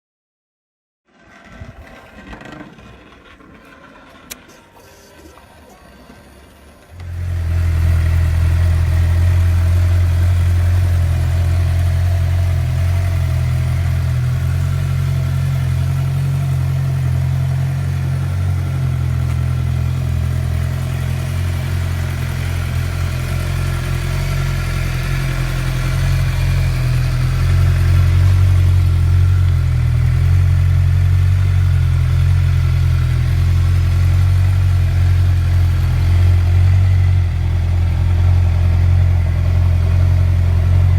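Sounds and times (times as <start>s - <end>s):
motorcycle engine idling: 6.3s - 40.9s.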